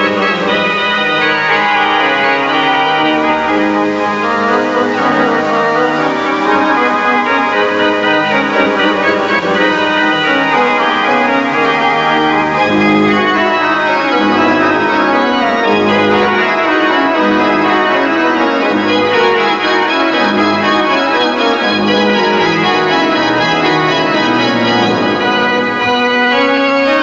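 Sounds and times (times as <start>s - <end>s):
organ music: 0.0s - 27.0s.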